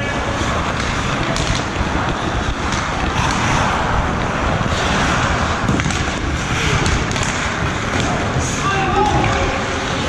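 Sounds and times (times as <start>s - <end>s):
skate blades scraping on ice: 0.1s - 8.6s.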